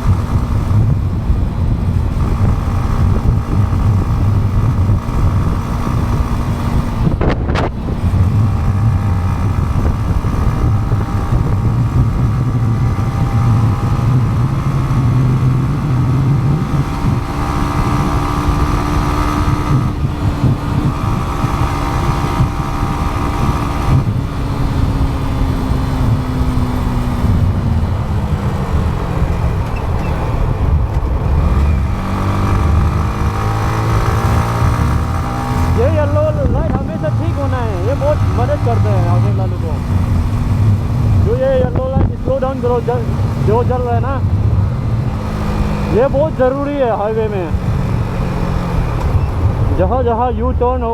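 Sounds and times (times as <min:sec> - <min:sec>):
motorcycle engine: 0:00.0 - 0:50.9
wind rumble on microphone: 0:00.0 - 0:50.9.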